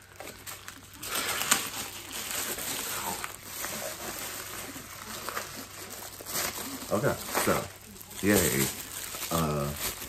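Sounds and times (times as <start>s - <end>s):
plastic bag crinkling and tearing: 0.0s - 10.0s.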